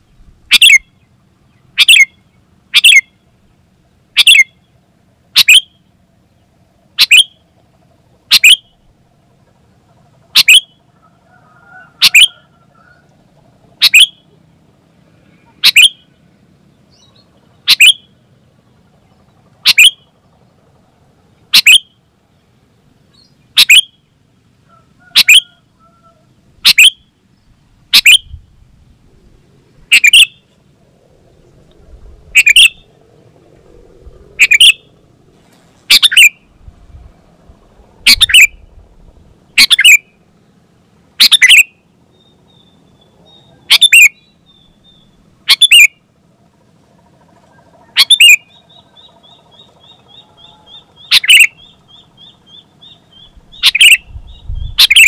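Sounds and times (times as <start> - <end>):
bulbul calling: 0.0 - 3.3, 4.1 - 7.5, 8.2 - 14.4, 15.2 - 16.2, 16.9 - 20.6, 21.4 - 22.1, 23.1 - 28.5, 29.8 - 40.4, 41.2 - 46.0, 46.9 - 55.0.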